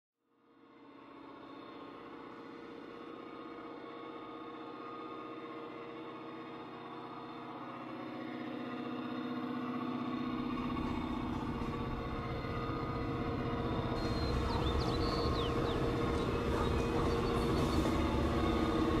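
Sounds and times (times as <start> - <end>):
diesel locomotive engines running: 0.4 - 19.0.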